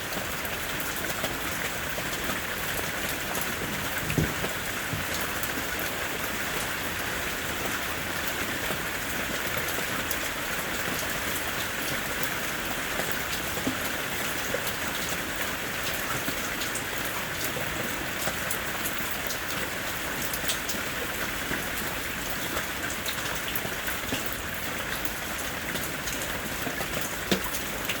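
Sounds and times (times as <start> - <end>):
heavy rain on hard surface: 0.0 - 28.0.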